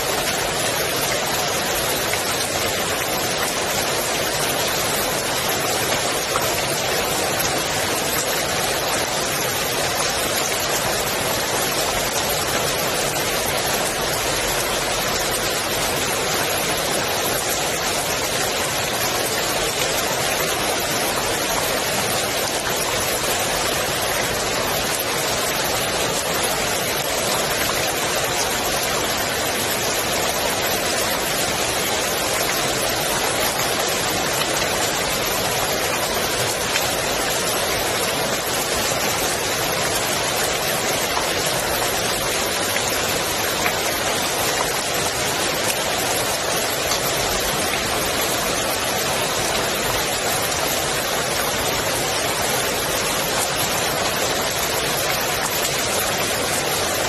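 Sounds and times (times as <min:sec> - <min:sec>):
rain falling on pool water: 0:00.0 - 0:57.0.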